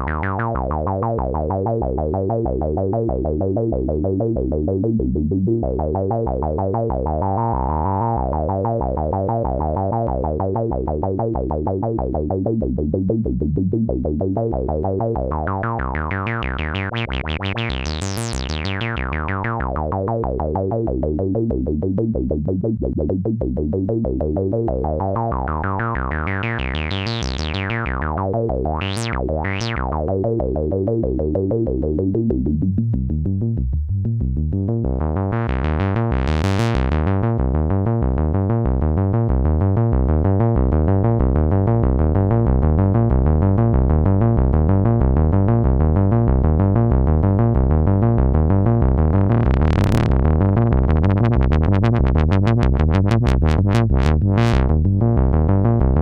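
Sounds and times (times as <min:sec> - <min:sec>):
synthesizer bass pattern: 0:00.0 - 0:56.0.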